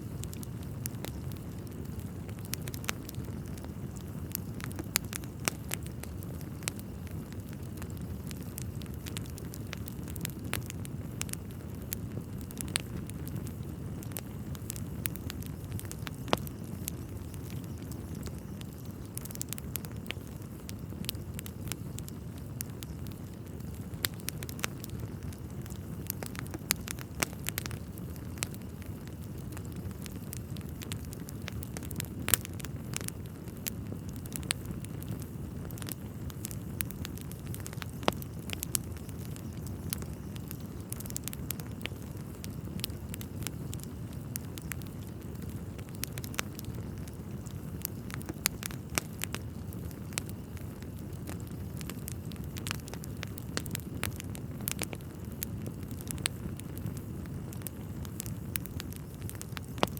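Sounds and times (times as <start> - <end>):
fire crackling and popping: 0.0 - 59.9
low fire rumble: 0.0 - 59.9.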